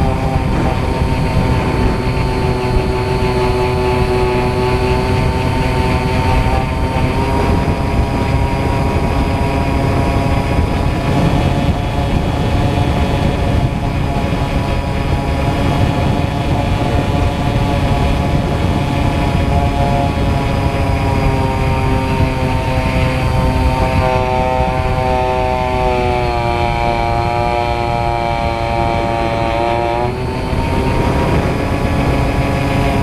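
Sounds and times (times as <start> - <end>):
rush of air: 0.0 - 25.9, 29.8 - 33.0
model plane motor whine: 0.0 - 33.0.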